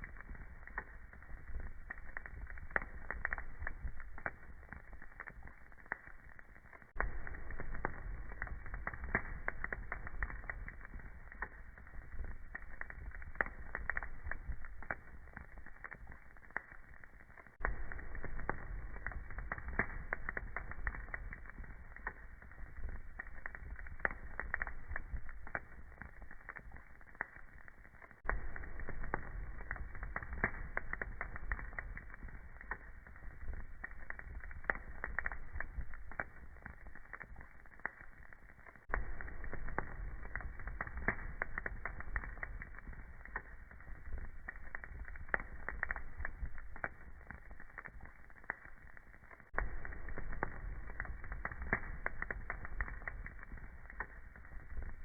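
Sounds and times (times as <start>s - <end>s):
low fire rumble: 0.0s - 55.0s
wood fire crackling and popping: 0.0s - 55.0s.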